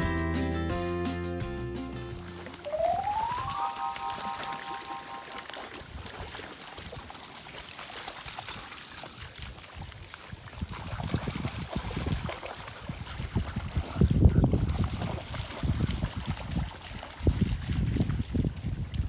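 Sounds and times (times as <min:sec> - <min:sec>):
dogs splashing through water: 0:02.2 - 0:19.0.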